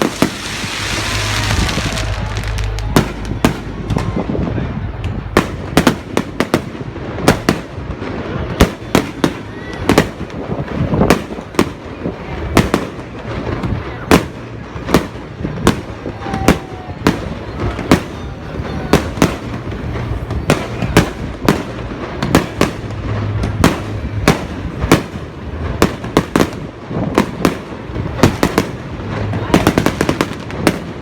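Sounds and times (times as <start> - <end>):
continuous low rumble: 0.0 - 31.0.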